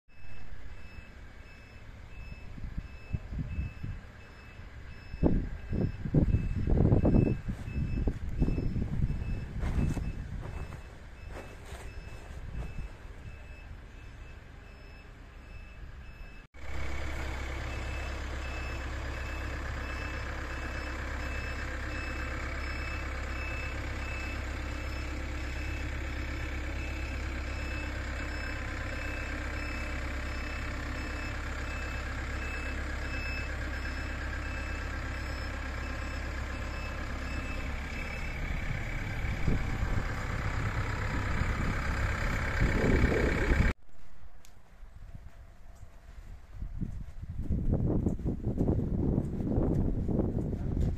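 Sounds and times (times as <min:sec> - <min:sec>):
drilling rig engine running: 0:00.2 - 0:43.8.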